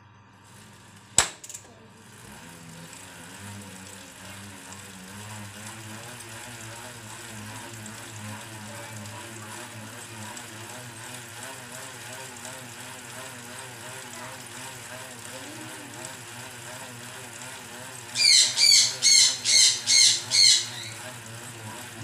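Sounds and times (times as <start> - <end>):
bicycle trainer humming: 0.0 - 22.0.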